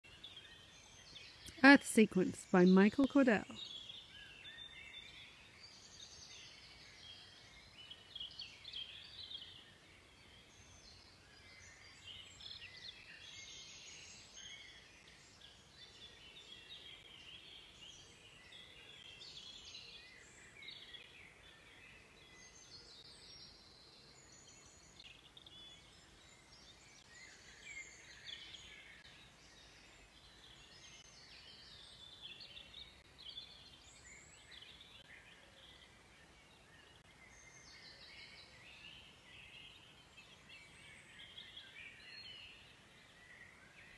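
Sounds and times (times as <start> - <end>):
small birds singing: 0.0 - 43.9.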